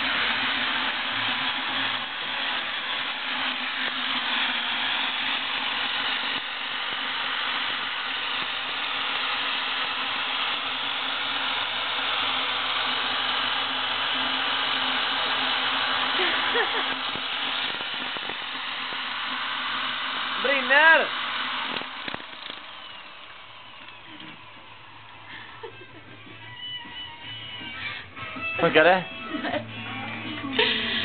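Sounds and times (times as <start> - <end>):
electric drill whirring: 0.0 - 31.0.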